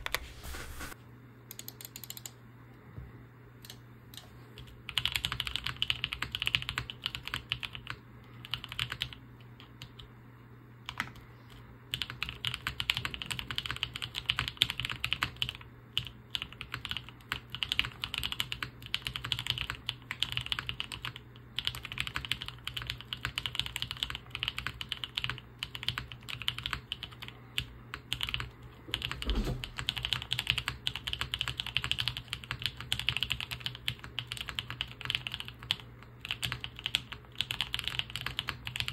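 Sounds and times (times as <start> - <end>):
typing on mechanical keyboard: 1.5 - 2.3, 3.6 - 10.1, 10.9 - 11.2, 11.9 - 38.9.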